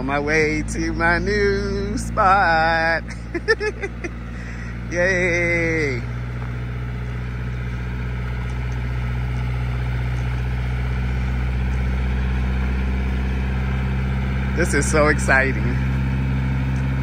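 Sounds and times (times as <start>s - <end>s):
tractor diesel engine droning: 0.0s - 17.0s.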